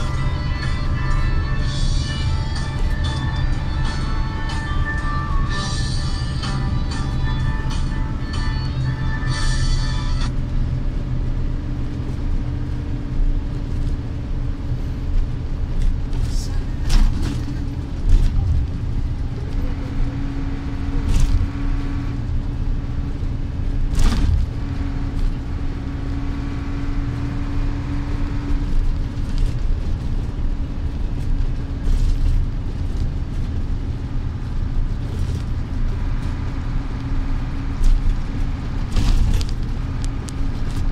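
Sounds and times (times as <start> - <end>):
road rumble: 0.0 - 40.9
vehicle engine hum: 0.0 - 40.9.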